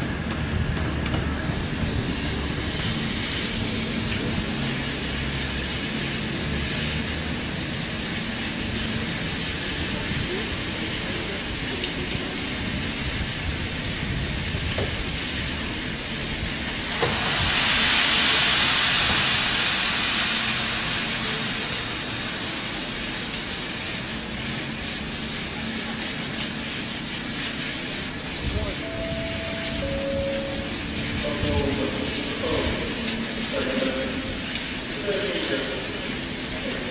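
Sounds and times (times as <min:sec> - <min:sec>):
loud train hiss: 0:00.0 - 0:36.9
train rumble and hum: 0:00.0 - 0:36.9.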